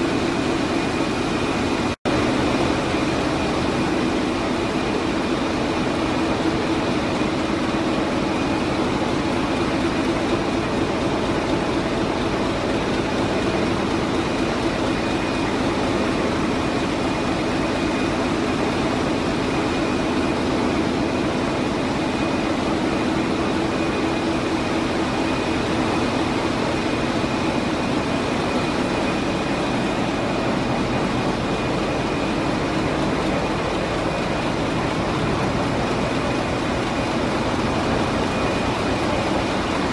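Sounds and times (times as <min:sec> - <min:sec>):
ship engine running: 0:00.0 - 0:39.9
thin steady whine: 0:00.0 - 0:39.9.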